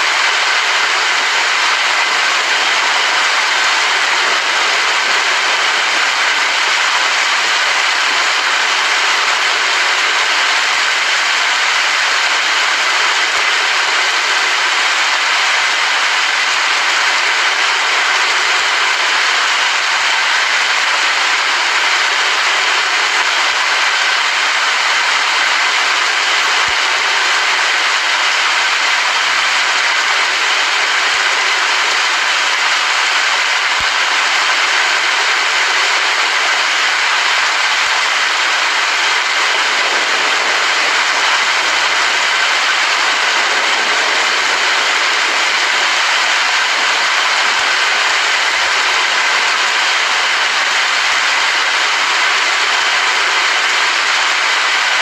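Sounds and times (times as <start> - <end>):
loud steady rain: 0.0 - 55.0.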